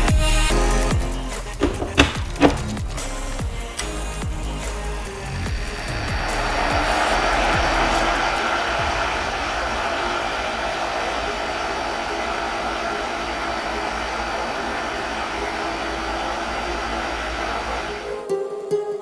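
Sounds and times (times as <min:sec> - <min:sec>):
cooling fans whirring: 0:00.5 - 0:18.7.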